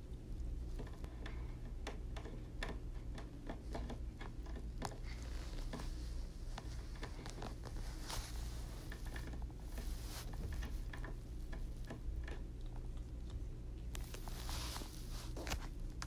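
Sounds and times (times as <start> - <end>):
cat teeth gnawing on chair: 0.8 - 16.0.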